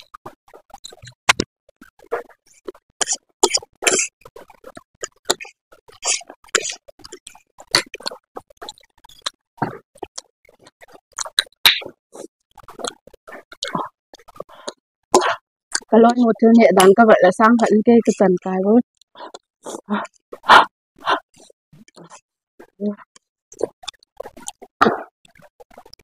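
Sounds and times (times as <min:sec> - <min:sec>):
person slurping and chewing: 0:00.0 - 0:16.2, 0:19.2 - 0:22.7, 0:23.5 - 0:26.0.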